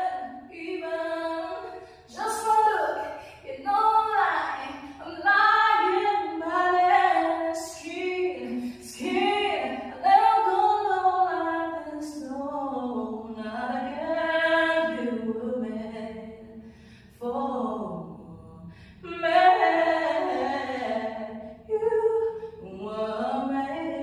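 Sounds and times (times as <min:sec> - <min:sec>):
woman singing a cappella: 0:00.0 - 0:24.0.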